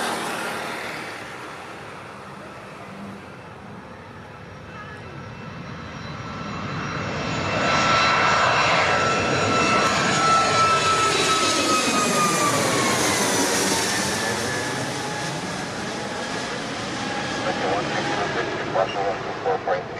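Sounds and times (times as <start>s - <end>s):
high engine whine: 0.0s - 19.9s
jet passing overhead: 0.0s - 19.9s.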